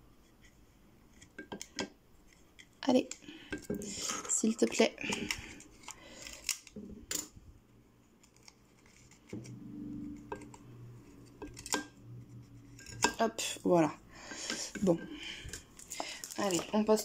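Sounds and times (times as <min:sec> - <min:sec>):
low steady hum: 0:02.0 - 0:17.0.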